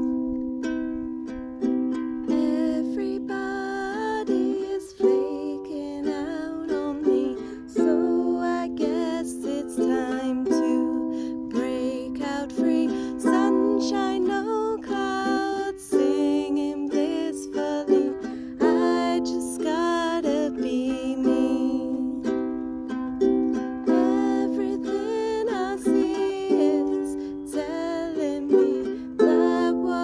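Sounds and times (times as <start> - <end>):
acoustic string instrument strumming: 0.0 - 30.0.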